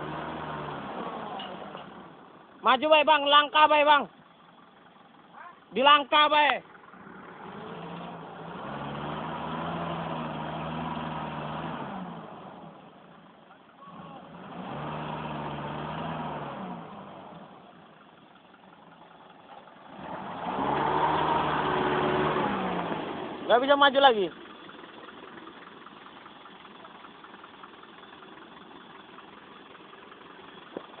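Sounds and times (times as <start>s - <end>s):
truck diesel engine under load: 0.0s - 31.0s.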